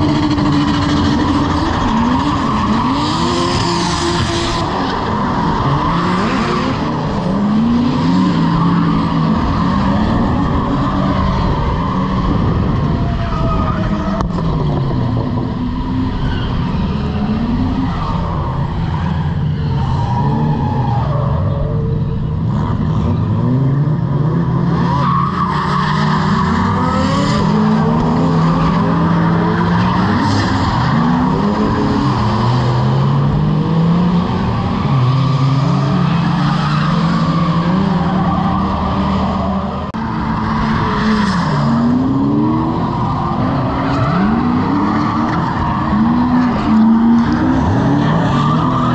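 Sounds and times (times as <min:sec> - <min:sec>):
car engines revving: 0:00.0 - 0:48.9
tyres skidding: 0:00.0 - 0:48.9.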